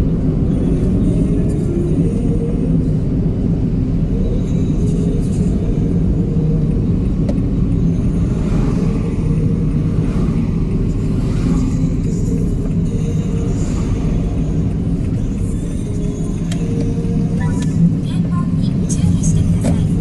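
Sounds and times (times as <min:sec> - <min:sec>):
road noise: 0:00.0 - 0:20.0
vehicle engine drone: 0:00.0 - 0:20.0.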